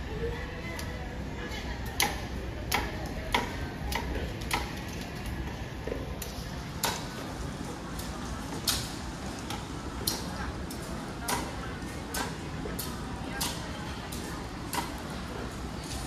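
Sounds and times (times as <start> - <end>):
market background noise: 0.0 - 16.0.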